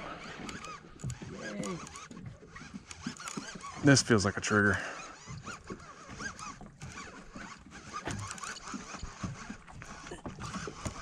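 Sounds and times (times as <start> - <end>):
fishing reel whirring: 0.0 - 11.0
reel clicks: 0.1 - 11.0.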